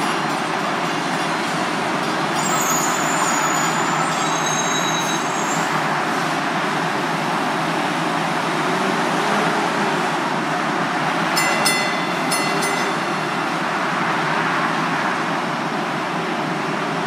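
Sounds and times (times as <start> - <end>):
electric trains rumbling: 0.0 - 17.0.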